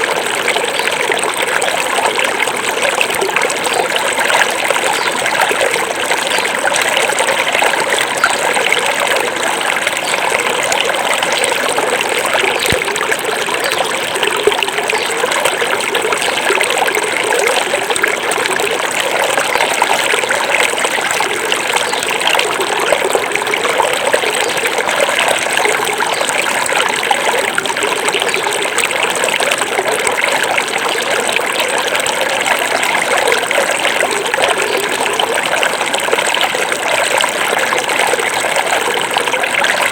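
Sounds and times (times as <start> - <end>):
river babbling over rocks: 0.0 - 39.9.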